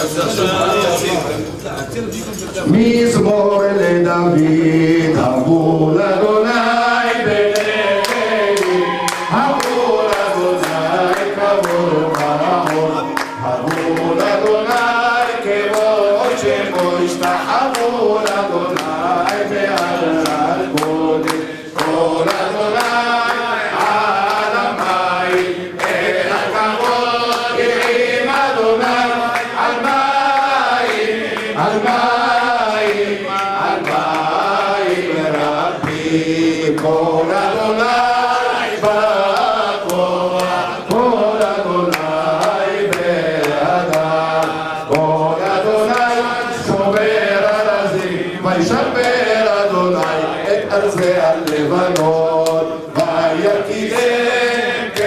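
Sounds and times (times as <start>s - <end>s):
sharp rhythmic beats: 0.0s - 55.0s
men chanting together: 2.7s - 55.0s.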